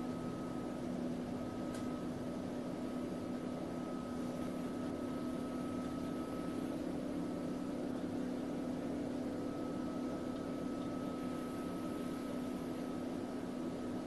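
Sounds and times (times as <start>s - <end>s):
faint high whine: 0.0s - 14.0s
machine hum: 0.0s - 14.0s.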